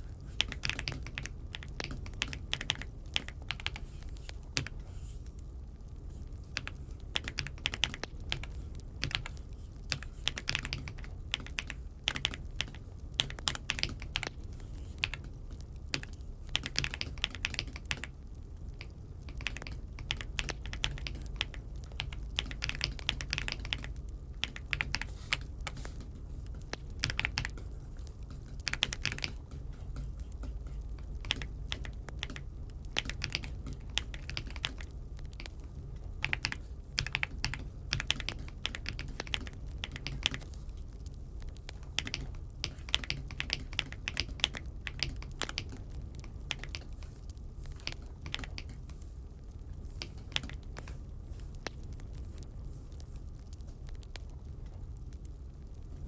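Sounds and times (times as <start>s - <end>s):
mechanical keyboard typing: 0.0s - 4.9s, 6.5s - 49.0s, 50.0s - 51.0s
low steady hum: 0.0s - 56.0s.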